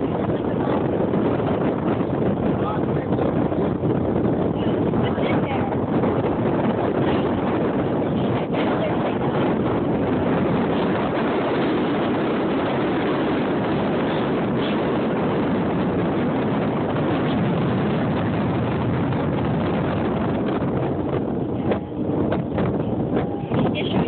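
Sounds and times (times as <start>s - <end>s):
wind and water rushing: 0.0s - 24.0s
wind buffeting microphone: 0.0s - 24.0s.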